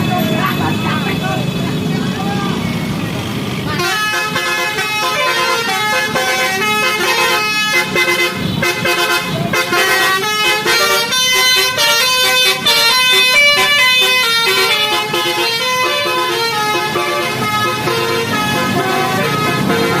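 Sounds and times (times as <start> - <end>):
multi-tone air horns playing tune: 3.7 - 20.0.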